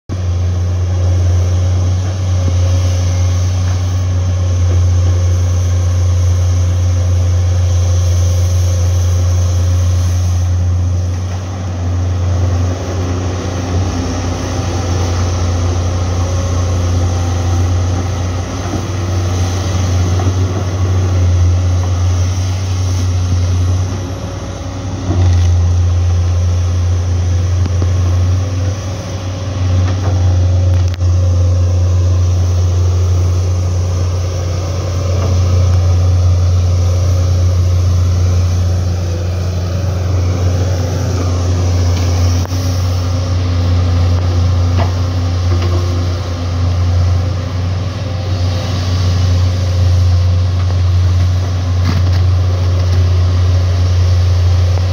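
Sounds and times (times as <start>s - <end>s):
excavator diesel engines droning: 0.1s - 54.9s.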